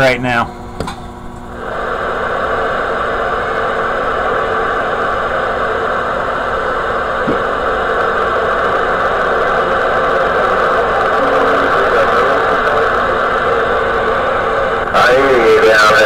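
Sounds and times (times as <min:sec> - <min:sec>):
radio static hiss: 0:01.4 - 0:16.0.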